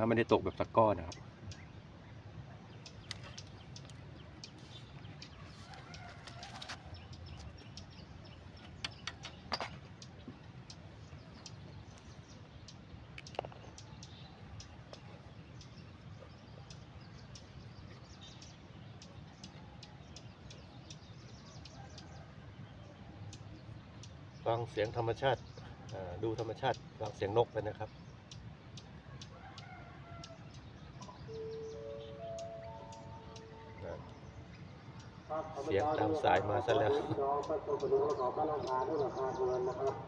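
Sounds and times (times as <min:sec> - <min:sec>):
faint birds chirping: 0:00.0 - 0:40.0
low steady background: 0:00.0 - 0:40.0.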